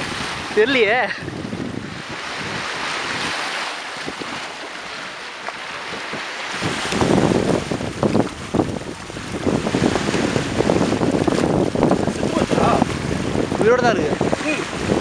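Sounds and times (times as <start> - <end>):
waves splashing against rocks: 0.0 - 15.0
wind buffeting microphone: 0.0 - 15.0.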